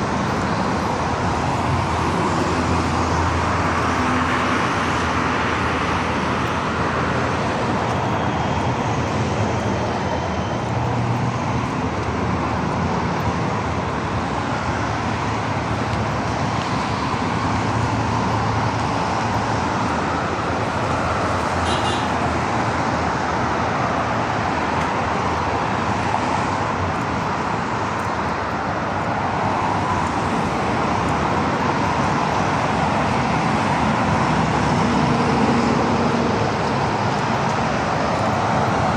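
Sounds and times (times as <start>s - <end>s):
passing cars and heavy vehicles: 0.0s - 38.9s.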